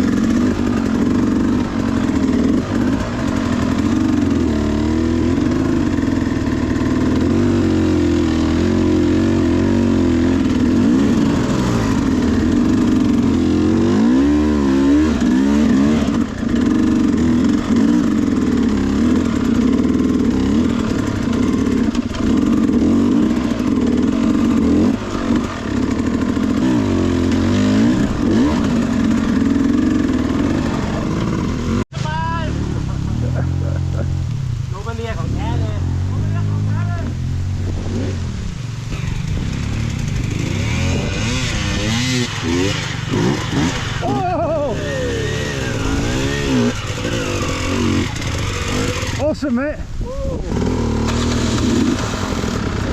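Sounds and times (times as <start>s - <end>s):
dirt bike engine revving: 0.0s - 49.8s, 50.4s - 52.9s.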